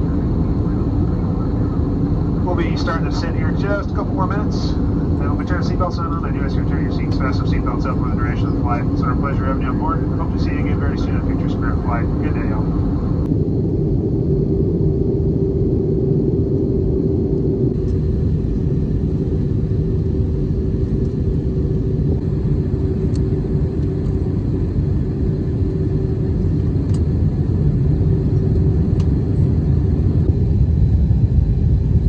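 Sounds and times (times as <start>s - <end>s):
airliner cabin engine rumble: 0.0s - 32.0s
steady hum: 0.0s - 32.0s.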